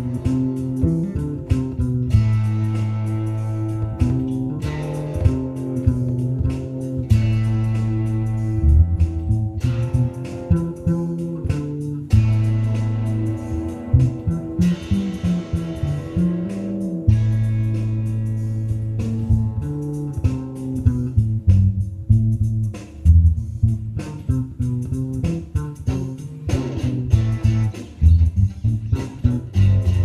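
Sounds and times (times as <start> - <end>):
electric bass low notes: 0.0 - 30.0
plucked electric guitar: 0.0 - 30.0.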